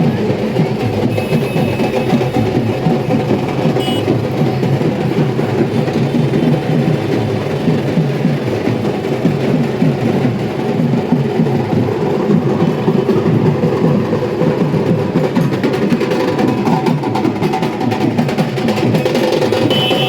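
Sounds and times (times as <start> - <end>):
many barrel drums playing: 0.0 - 20.0.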